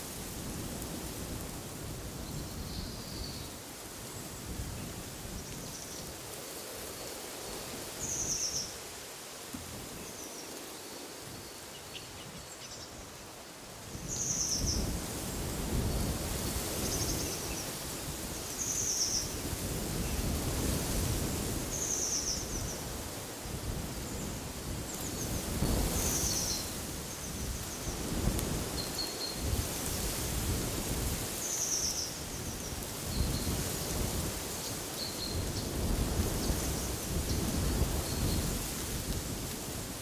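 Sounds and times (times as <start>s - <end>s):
wind rustling through trees: 0.0s - 40.0s.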